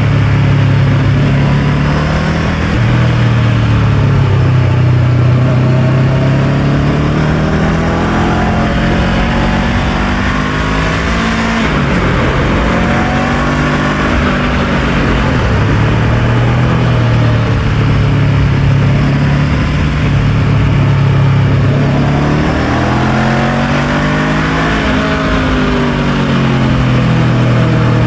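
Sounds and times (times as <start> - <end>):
motorcycle engine running: 0.0 - 28.0
steady rushing noise: 0.0 - 28.0.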